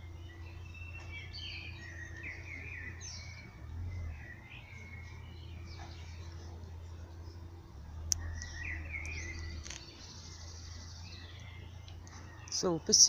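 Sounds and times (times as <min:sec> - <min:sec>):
birds chirping and singing: 0:00.0 - 0:13.0
steady low rumble: 0:00.0 - 0:13.0.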